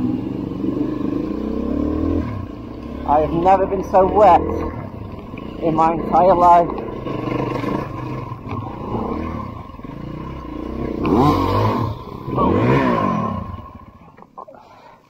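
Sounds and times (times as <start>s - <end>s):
dirt bike engines revving: 0.0s - 14.8s.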